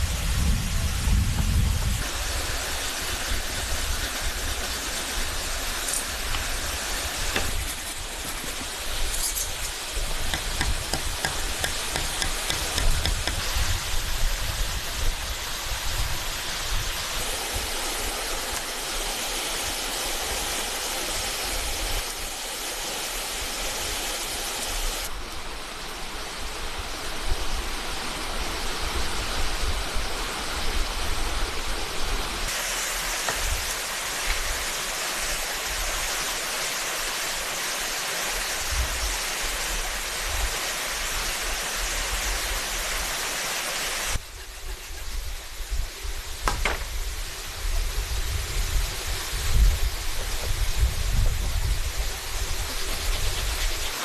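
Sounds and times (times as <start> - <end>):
creek water running: 2.0 - 25.2, 32.5 - 54.0.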